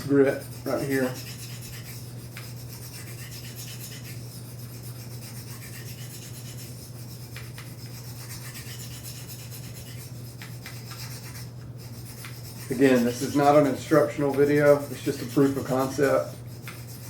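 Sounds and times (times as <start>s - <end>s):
knife rasping on sharpening plate: 0.0s - 17.0s.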